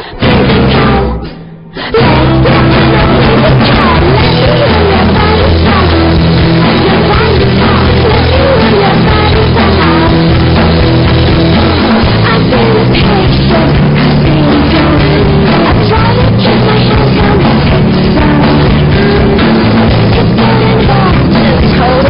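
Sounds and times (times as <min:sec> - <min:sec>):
drums: 0:00.0 - 0:22.0
loud rock music: 0:00.0 - 0:22.0
person singing: 0:00.0 - 0:22.0.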